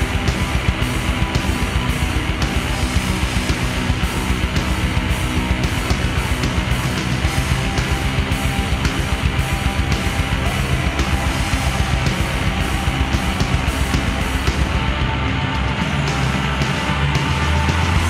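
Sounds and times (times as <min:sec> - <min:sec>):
distorted electric guitars: 0:00.0 - 0:18.0
fast drumming: 0:00.0 - 0:18.0.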